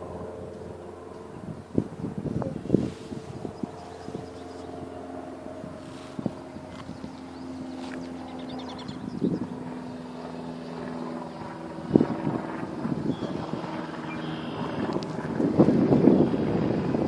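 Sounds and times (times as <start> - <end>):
steady low drone: 0.0 - 17.0
wind gusting on microphone: 0.0 - 17.0.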